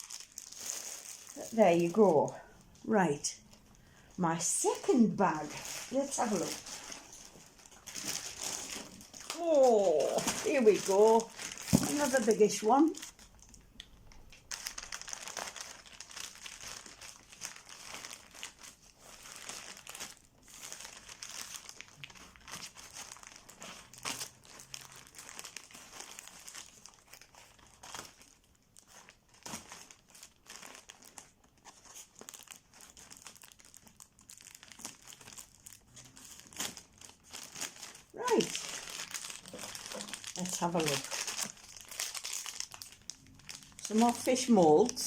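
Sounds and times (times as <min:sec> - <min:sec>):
packaging crinkling and tearing: 0:00.0 - 0:45.0.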